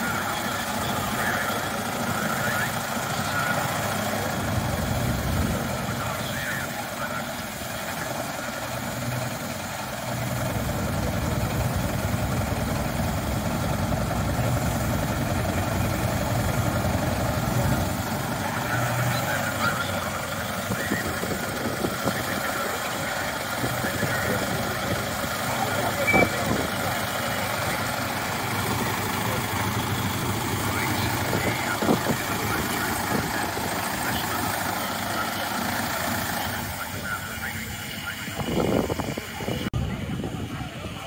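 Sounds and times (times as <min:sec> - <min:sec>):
racing car engine running: 0:00.0 - 0:41.0.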